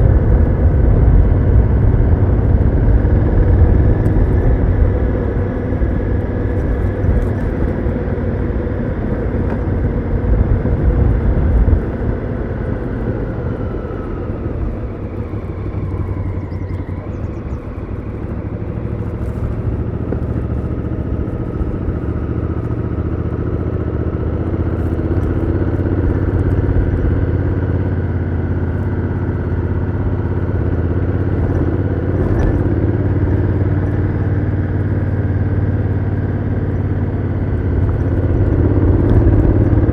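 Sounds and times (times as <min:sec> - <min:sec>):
motorcycle engine while riding: 0:00.0 - 0:39.9
wind rumble on microphone: 0:00.0 - 0:39.9.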